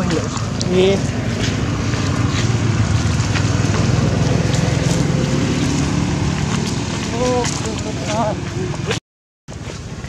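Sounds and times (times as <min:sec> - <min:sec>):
motor droning: 0:00.0 - 0:09.0.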